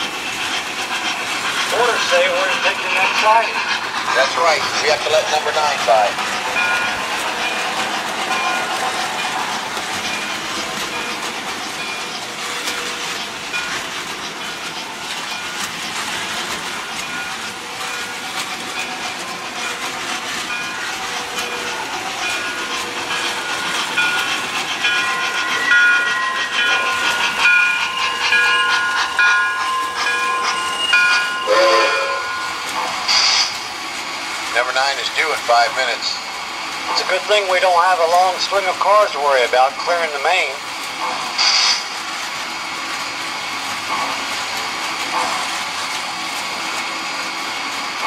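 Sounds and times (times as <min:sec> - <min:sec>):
model train wheels clicking: 0:00.0 - 0:31.7, 0:32.3 - 0:48.0
locomotive whining: 0:00.0 - 0:48.0.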